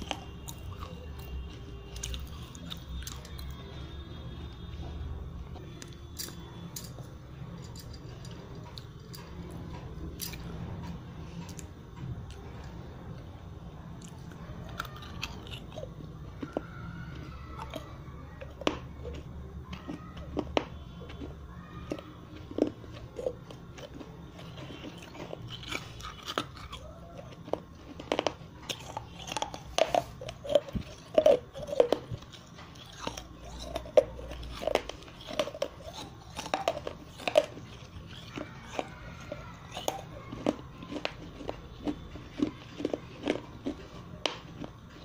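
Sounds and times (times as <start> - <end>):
chewing crunchy clay: 0.0 - 45.0.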